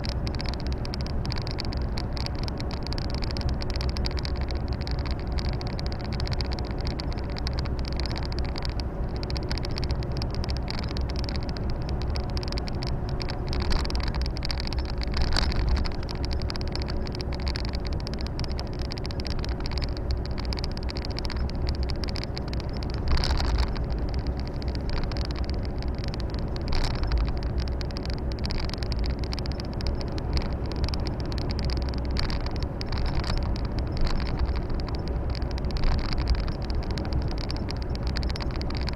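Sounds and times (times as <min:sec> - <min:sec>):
road and tyre noise: 0:00.0 - 0:38.9.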